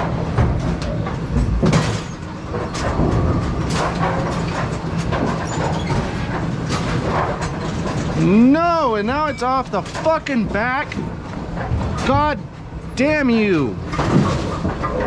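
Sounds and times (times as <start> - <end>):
metallic clatter and knocks: 0.0 - 8.5, 9.1 - 12.4, 13.8 - 15.0
machinery rumble and hum: 0.0 - 15.0.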